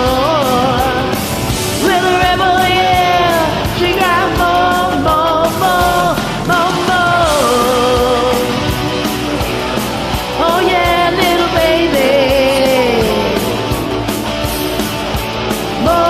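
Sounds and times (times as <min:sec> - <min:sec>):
rock karaoke backing track: 0:00.0 - 0:16.0.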